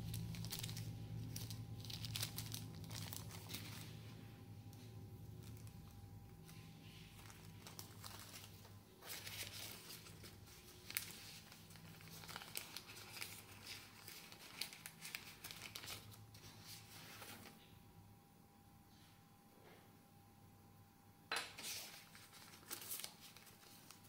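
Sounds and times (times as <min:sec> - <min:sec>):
plastic bag crinkling: 0:00.0 - 0:17.7, 0:21.6 - 0:24.0.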